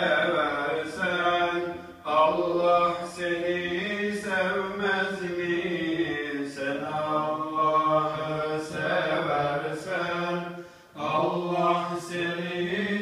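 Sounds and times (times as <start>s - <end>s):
man singing unaccompanied hymn: 0.0s - 13.0s.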